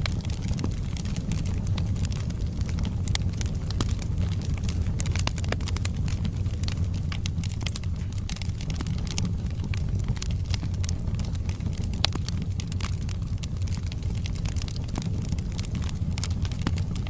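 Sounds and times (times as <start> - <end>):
fire rumbling: 0.0 - 17.0
logs crackling and popping: 0.0 - 17.0.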